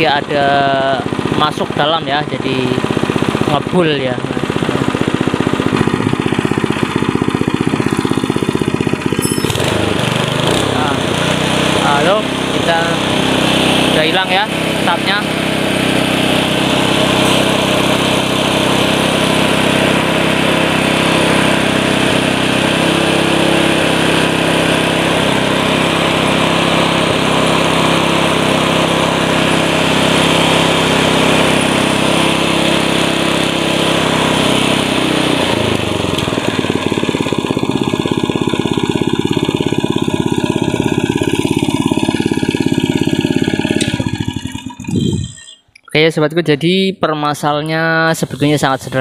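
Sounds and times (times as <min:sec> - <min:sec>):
small engine running: 0:00.0 - 0:45.7, 0:48.0 - 0:49.0.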